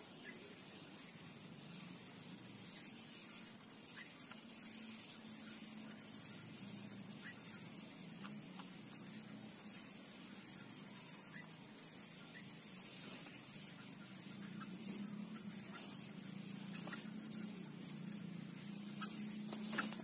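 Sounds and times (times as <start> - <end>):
birds chirping faintly: 0.0 - 20.0
low hum: 0.0 - 20.0
thin high-pitched whine: 0.0 - 20.0.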